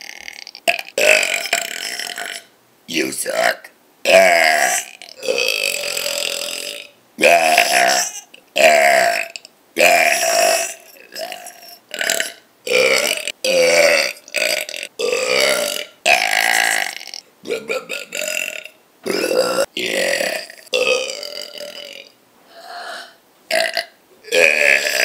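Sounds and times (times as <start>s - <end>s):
person burping: 0.0s - 2.5s, 4.1s - 25.0s.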